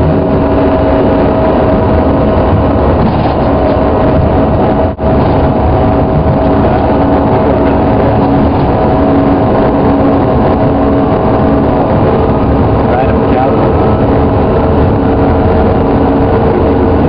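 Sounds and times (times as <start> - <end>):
airliner engines droning: 0.0 - 17.0.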